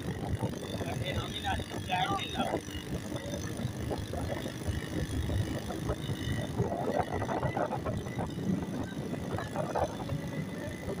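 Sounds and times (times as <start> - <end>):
vehicle ride rumble: 0.0 - 11.0.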